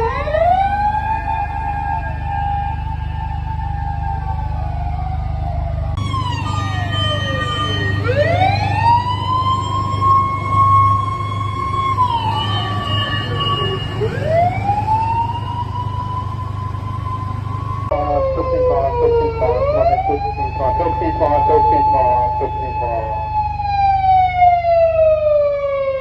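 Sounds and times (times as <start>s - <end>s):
fire engine electronic siren wailing: 0.0s - 26.0s
low steady rumble: 0.0s - 26.0s.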